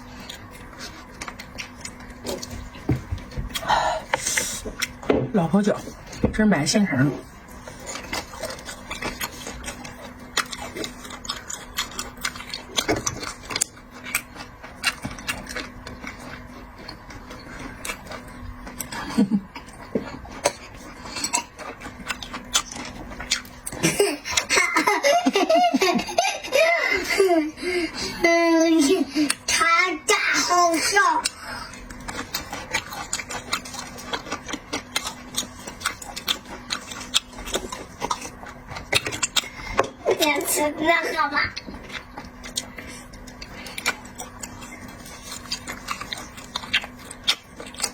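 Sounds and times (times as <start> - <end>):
faint steady hum: 0.0 - 47.9
close eating clicks and smacks: 0.1 - 5.0, 7.5 - 25.9, 30.3 - 40.6, 41.4 - 47.9.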